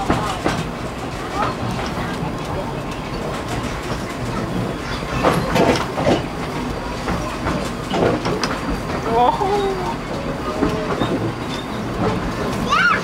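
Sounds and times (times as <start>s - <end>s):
train rolling rumble: 0.0s - 13.0s
wheels clicking over rail joints: 0.0s - 13.0s.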